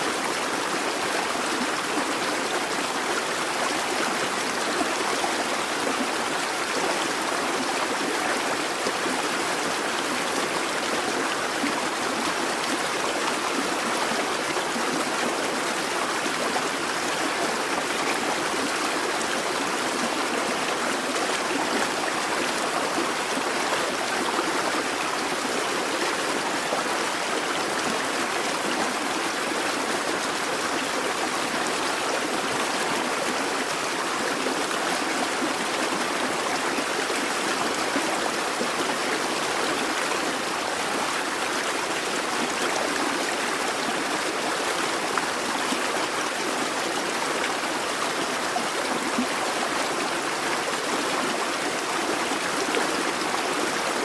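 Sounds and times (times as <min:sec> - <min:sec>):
brook babbling over stones: 0:00.0 - 0:54.0.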